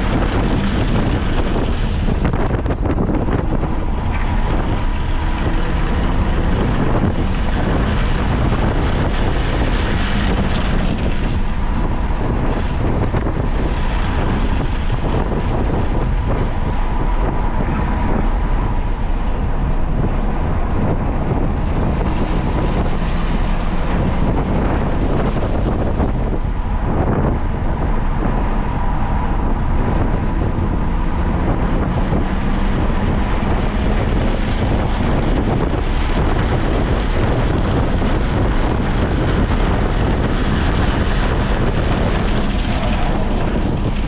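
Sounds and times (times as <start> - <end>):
car engine at speed: 0.0 - 44.0
road noise: 0.0 - 44.0
wind rushing over microphone: 0.0 - 44.0.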